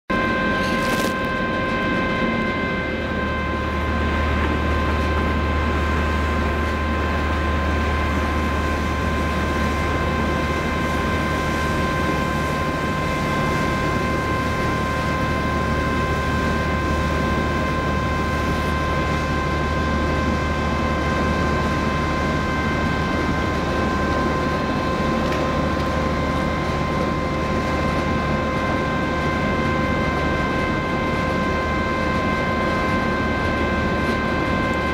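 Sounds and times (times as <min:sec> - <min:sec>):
low drone of ship engines: 0:00.1 - 0:34.9
steady whining tones: 0:00.1 - 0:34.9.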